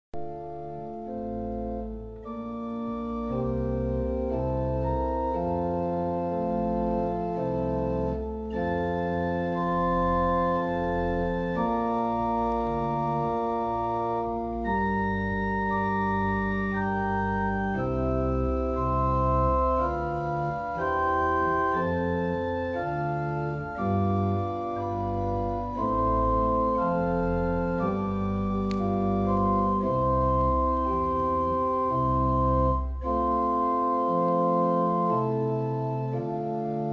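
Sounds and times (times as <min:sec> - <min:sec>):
pipe organ chords: 0:00.2 - 0:36.9.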